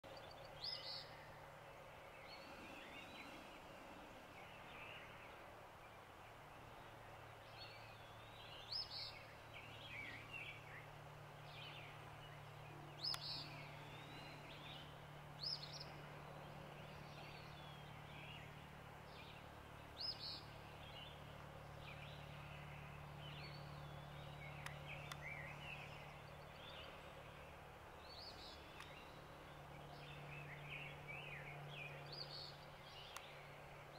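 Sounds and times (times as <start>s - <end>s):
faint birdsong: 0.0s - 33.9s
steady low hum: 0.0s - 33.9s.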